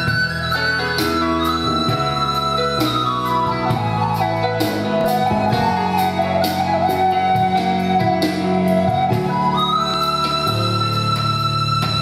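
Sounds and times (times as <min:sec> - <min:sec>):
drum kit beat: 0:00.0 - 0:12.0
flute melody: 0:00.0 - 0:12.0
piano chords: 0:00.0 - 0:12.0.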